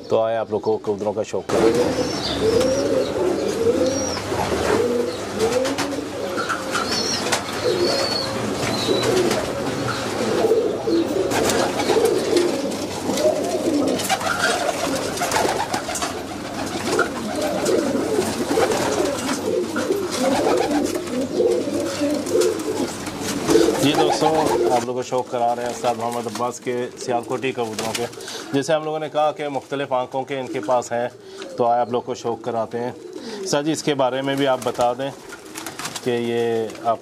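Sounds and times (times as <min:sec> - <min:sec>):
pigeons cooing: 0:00.0 - 0:28.8, 0:30.1 - 0:37.0.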